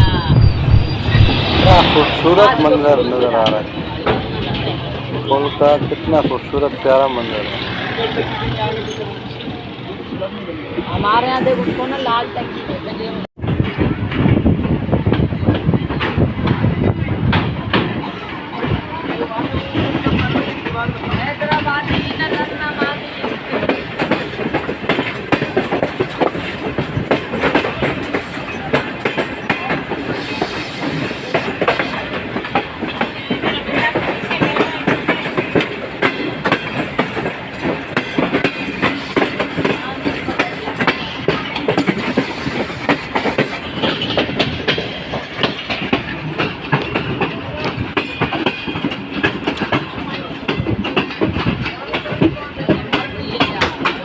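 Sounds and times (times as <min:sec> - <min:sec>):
rattle of train coaches: 0:00.0 - 0:54.0
train wheels clattering over rail joints: 0:02.0 - 0:10.3, 0:13.4 - 0:54.0.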